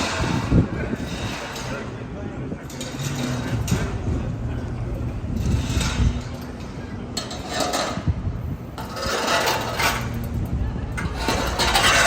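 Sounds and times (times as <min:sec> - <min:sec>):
city background noise: 0:00.0 - 0:12.0
indistinct voices of passers-by: 0:00.0 - 0:12.0.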